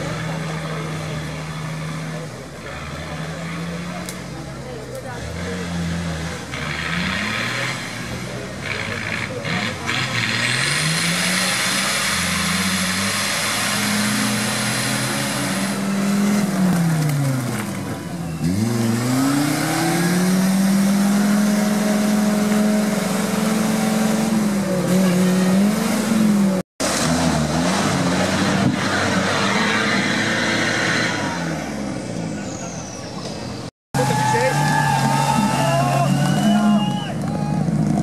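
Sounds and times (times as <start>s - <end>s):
off-road engines revving: 0.0s - 38.0s.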